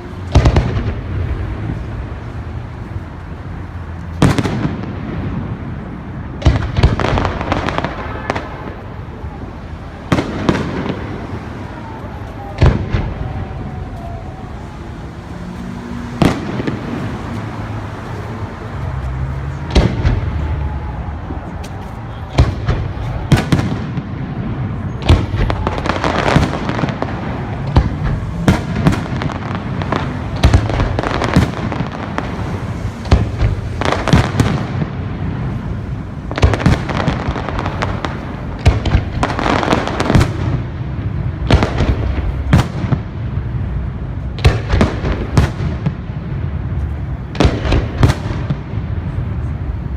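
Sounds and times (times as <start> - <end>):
fireworks rumble and crackle: 0.0 - 49.9.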